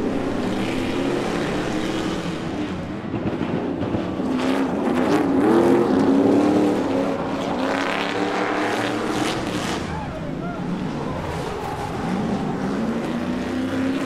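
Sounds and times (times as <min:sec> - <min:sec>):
racing truck engines: 0:00.0 - 0:14.0.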